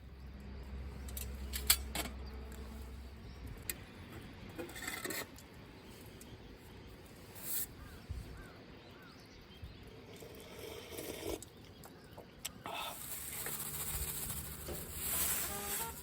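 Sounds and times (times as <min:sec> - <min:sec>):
outdoor ambience: 0:00.0 - 0:16.0.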